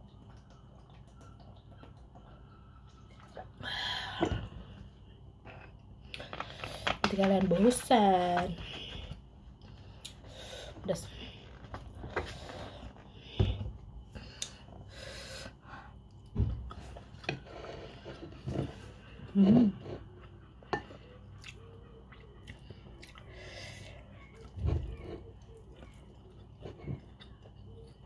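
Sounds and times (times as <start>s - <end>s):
person chewing food: 0.0s - 3.6s, 8.7s - 28.0s.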